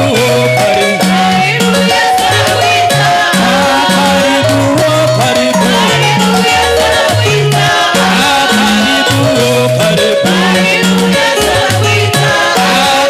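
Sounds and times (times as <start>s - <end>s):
gospel worship band music: 0.0s - 13.0s.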